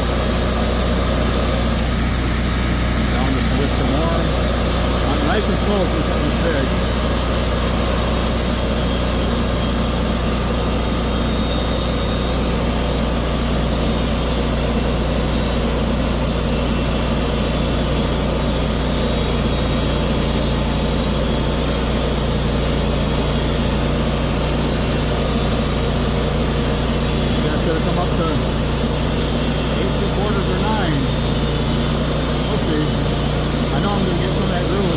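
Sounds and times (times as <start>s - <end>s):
band sawmill cutting wood: 0.0s - 34.9s.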